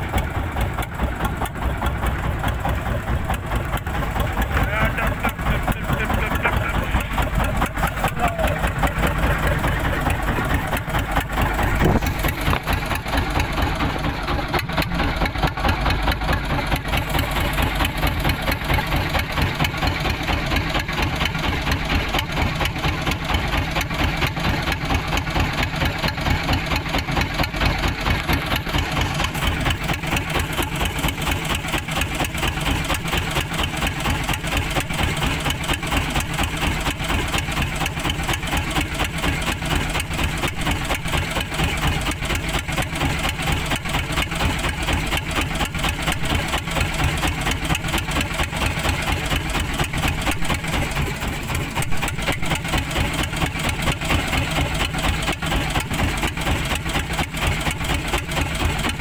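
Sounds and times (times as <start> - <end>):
boat engine idling: 0.0 - 59.0.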